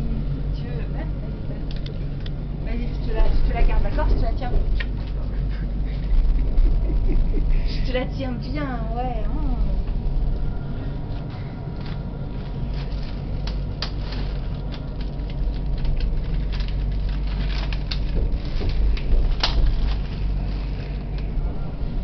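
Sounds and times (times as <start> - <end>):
tram rumbling on rails: 0.0 - 22.0.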